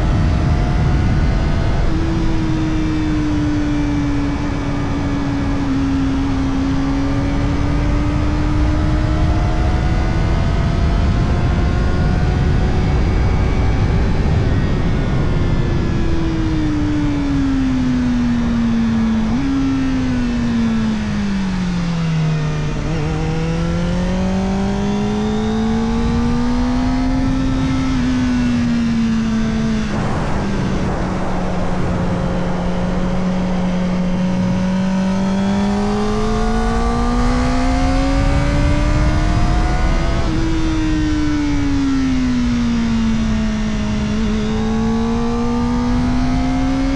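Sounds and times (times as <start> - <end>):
motorcycle engine revving: 0.0 - 15.8, 17.8 - 46.9
wind rush: 0.0 - 18.5, 20.0 - 46.9.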